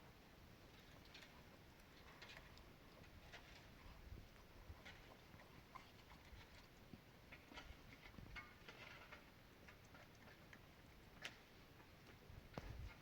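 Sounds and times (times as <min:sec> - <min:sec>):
faint small ticks and clicks: 0:00.7 - 0:13.0.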